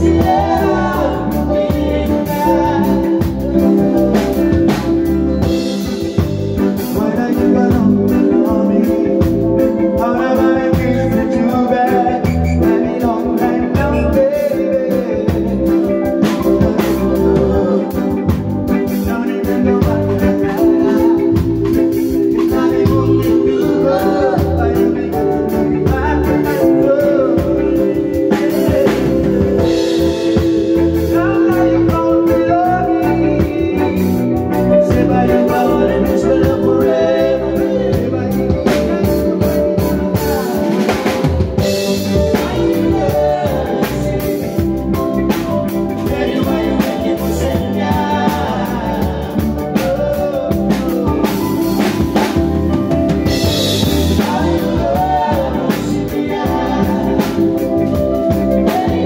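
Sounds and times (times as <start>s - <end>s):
drum kit steady beat: 0.0s - 59.0s
electronic keyboard playing: 0.0s - 59.0s
person singing: 0.0s - 59.0s.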